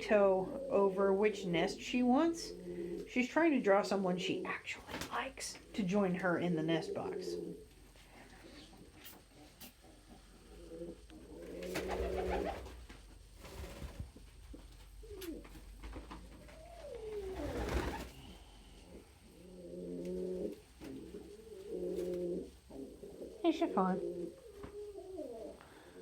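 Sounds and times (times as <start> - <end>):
pigeons cooing: 0.0 - 3.2, 4.0 - 12.8, 14.8 - 26.0.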